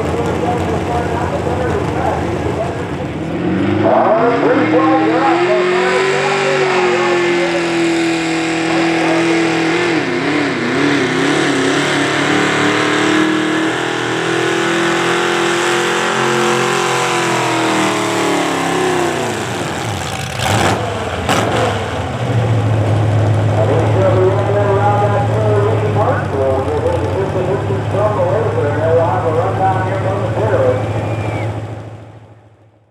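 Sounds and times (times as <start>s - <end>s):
tractor engine revving: 0.0s - 32.7s.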